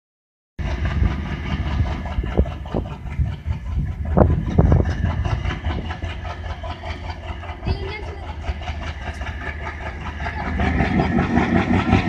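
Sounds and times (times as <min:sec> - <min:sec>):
diesel locomotive chugging: 0:00.6 - 0:12.0.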